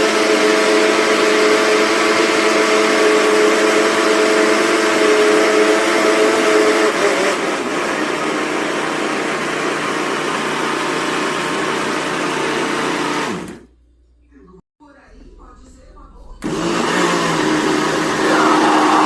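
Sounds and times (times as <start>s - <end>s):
blender motor running: 0.0s - 13.7s, 16.4s - 19.0s.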